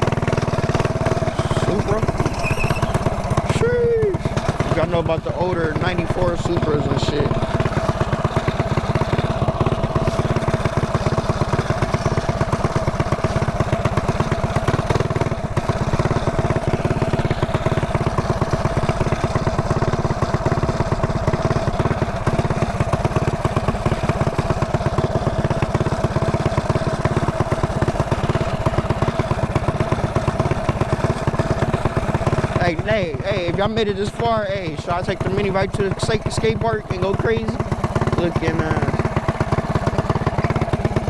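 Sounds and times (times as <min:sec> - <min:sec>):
mini bike engine running: 0:00.0 - 0:41.0.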